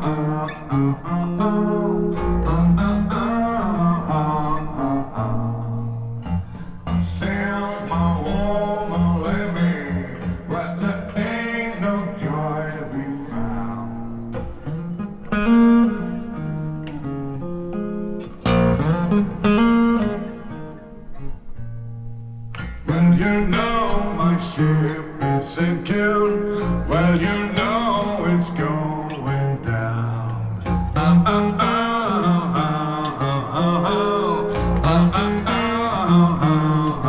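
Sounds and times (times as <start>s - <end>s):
sustained bass notes: 0.0s - 33.8s, 34.5s - 37.0s
acoustic blues guitar: 0.0s - 37.0s.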